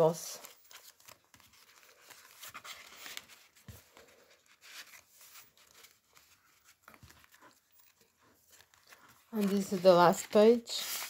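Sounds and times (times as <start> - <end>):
paper rustling and scraping: 0.0 - 11.0.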